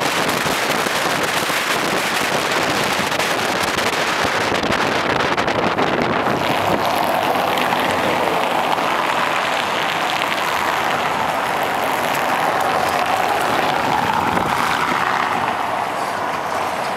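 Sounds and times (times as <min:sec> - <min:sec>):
vehicle road and wind noise: 0:00.0 - 0:16.9.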